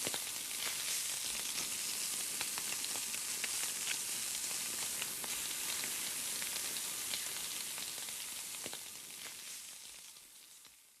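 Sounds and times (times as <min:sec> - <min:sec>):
chicken sizzling on a grill: 0:00.0 - 0:11.0.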